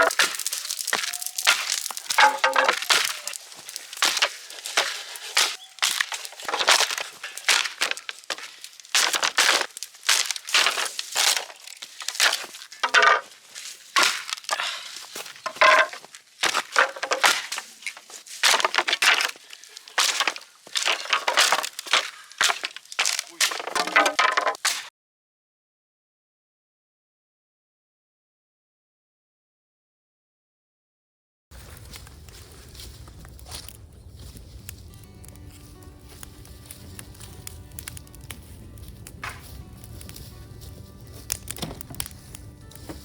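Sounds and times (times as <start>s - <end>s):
debris crunching and clattering: 0.0s - 24.9s, 31.6s - 43.0s.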